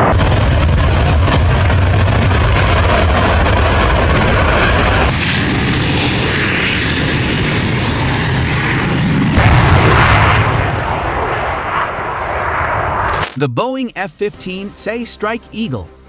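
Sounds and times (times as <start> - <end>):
fighter jet engine: 0.0 - 13.4.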